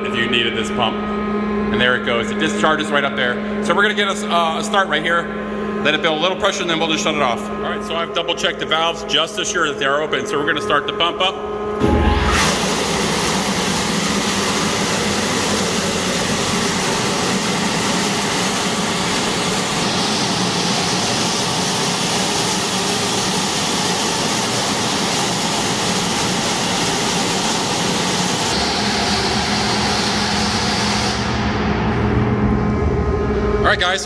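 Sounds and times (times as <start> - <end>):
electric pump motor running: 0.0 - 34.0.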